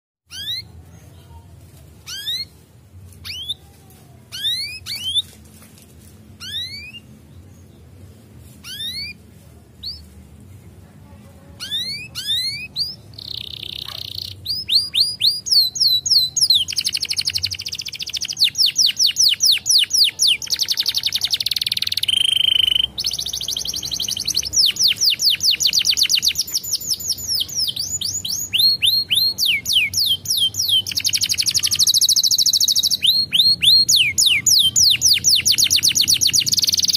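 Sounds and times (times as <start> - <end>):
canary singing trills: 0.3 - 0.8, 2.0 - 2.6, 3.2 - 3.6, 4.3 - 5.3, 6.4 - 7.9, 8.6 - 9.2, 11.4 - 36.9.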